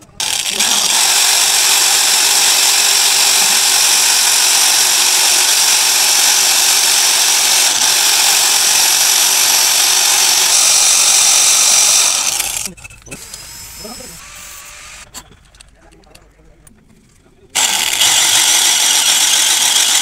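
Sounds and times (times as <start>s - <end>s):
electric drill boring into metal: 0.0s - 15.1s, 17.6s - 20.0s.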